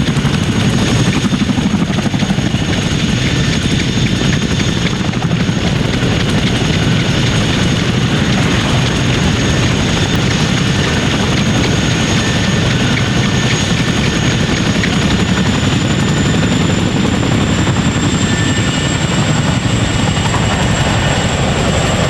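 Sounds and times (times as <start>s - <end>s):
helicopter rotor blades beating: 0.0s - 22.0s
turbine whine: 0.0s - 22.0s.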